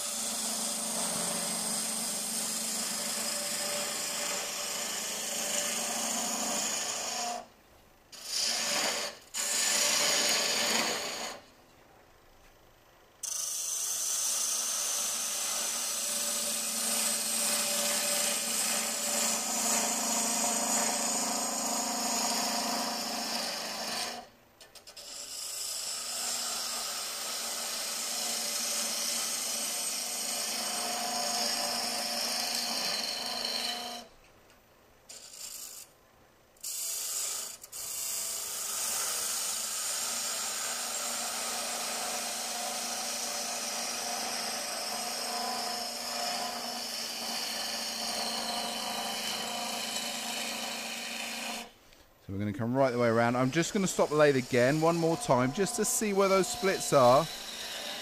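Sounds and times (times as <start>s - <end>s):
lathe gouge rasping wood: 0.0s - 7.4s, 8.2s - 11.4s, 13.3s - 24.2s, 24.9s - 34.0s, 36.9s - 51.7s, 52.8s - 58.0s.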